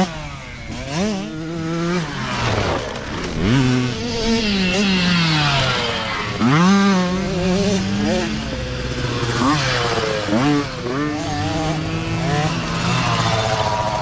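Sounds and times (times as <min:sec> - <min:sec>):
dirt bike engines revving past: 0:00.0 - 0:14.0.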